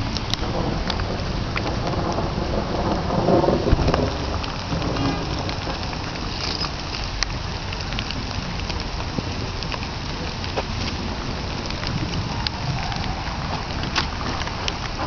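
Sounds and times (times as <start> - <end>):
raindrops ticking: 0.0 - 15.0
steady rain falling: 0.0 - 15.0
thunder rumble: 0.0 - 15.0.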